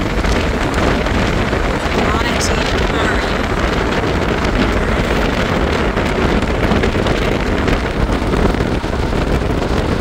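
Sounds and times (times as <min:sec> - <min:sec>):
road noise rumble: 0:00.0 - 0:10.0
wind rushing over microphone: 0:00.0 - 0:10.0.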